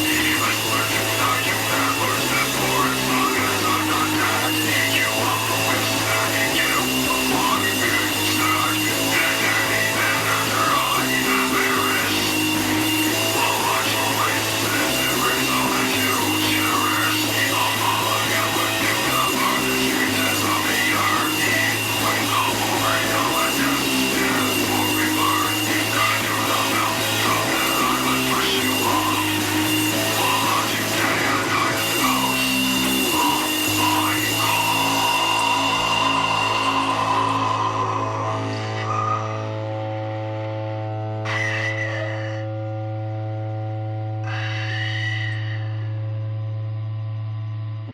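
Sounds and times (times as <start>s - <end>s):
black metal music: 0.0s - 45.9s.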